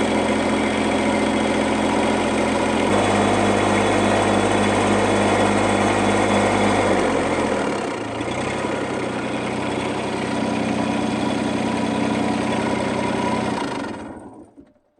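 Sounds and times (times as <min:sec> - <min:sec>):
excavator engine running: 0:00.0 - 0:14.6.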